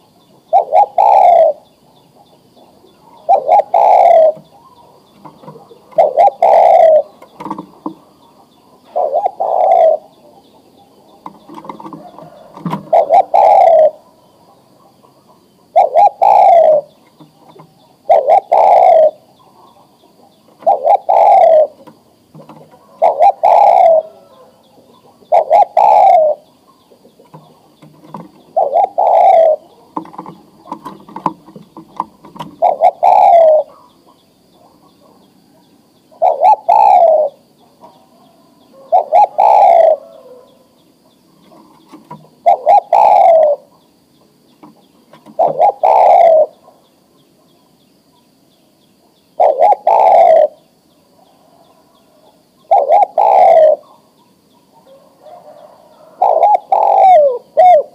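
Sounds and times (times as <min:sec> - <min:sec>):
dove cooing: 0:00.0 - 0:43.8, 0:44.6 - 0:47.0, 0:49.0 - 0:57.9.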